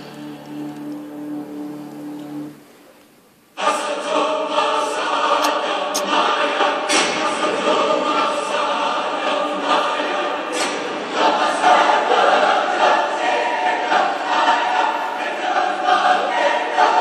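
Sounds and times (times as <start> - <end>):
choir singing: 0.0 - 2.6, 3.5 - 17.0.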